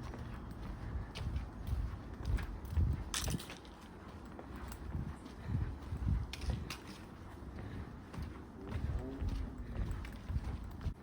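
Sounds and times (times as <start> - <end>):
footsteps walking: 0.0 - 11.0.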